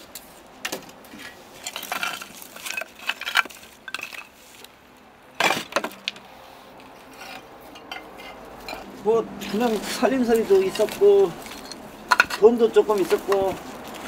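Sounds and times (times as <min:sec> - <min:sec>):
clay shards clinking and scraping: 0:00.1 - 0:04.8, 0:06.8 - 0:14.0.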